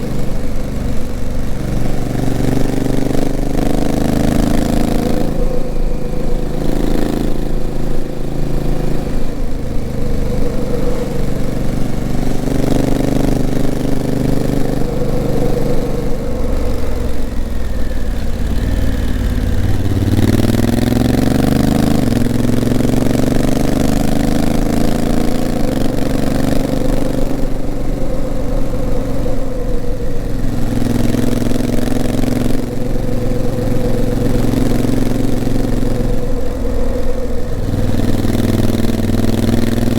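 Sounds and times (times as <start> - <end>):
motorcycle engine accelerating: 0.0 - 39.9
wind rushing: 0.2 - 39.9.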